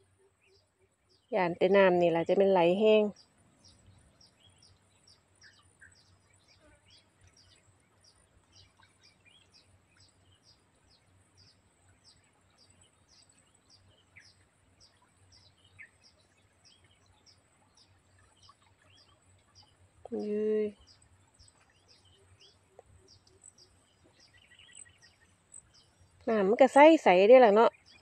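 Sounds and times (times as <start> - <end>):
small bird chirping: 0.3 - 28.0.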